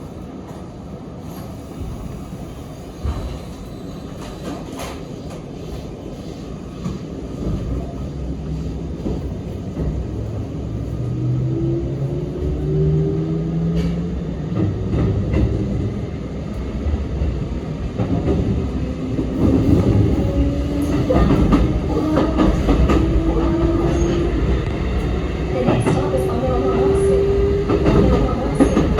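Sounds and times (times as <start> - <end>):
train wheels clicking on rails: 0.4 - 11.1, 13.6 - 28.9.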